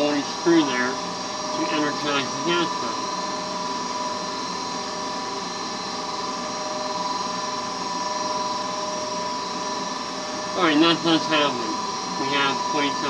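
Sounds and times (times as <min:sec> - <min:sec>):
furnace motor whirring: 0:00.0 - 0:13.0.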